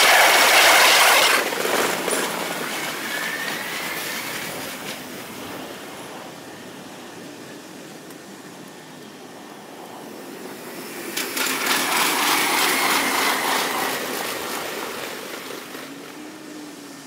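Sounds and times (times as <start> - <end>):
train passing with wheel clicking: 0.0 - 17.0.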